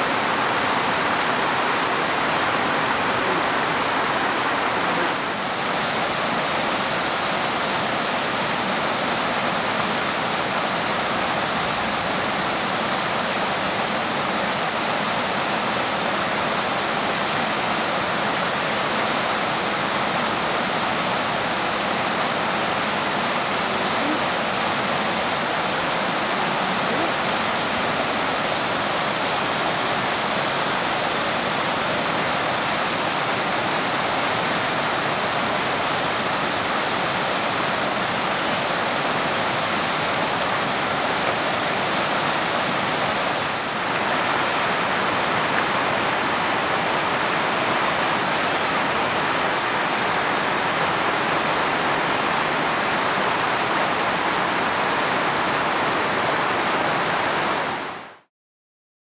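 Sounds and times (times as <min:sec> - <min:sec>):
river water rushing: 0:00.0 - 0:58.3.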